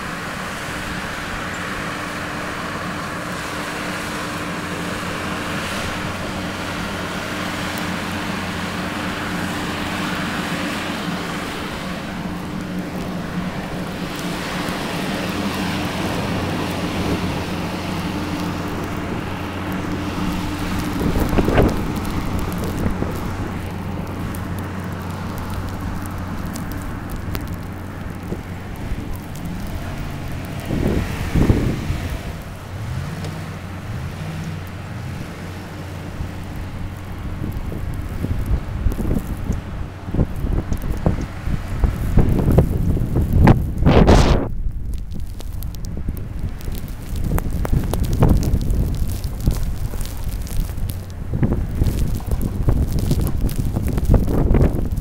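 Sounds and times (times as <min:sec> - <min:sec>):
vehicle engine humming: 0:00.0 - 0:55.0
wind buffeting microphone: 0:00.0 - 0:55.0.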